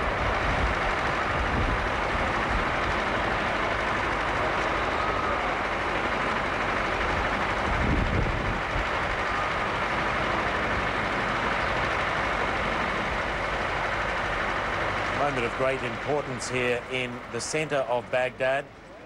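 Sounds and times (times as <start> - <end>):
military vehicles moving: 0.0 - 19.0.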